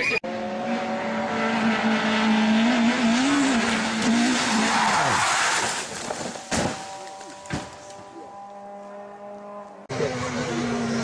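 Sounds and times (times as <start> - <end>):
race car engine at high revs: 0.0 - 11.0
tire skidding: 0.5 - 11.0.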